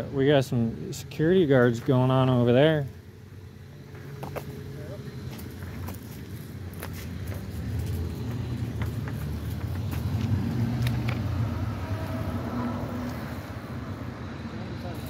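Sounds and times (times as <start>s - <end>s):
car passing: 2.7s - 15.0s.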